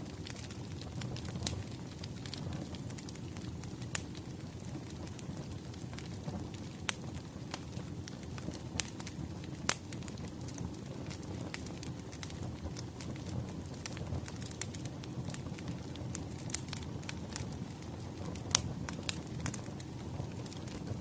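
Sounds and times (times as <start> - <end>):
burning logs rumbling: 0.0 - 21.0
fire popping: 0.0 - 21.0.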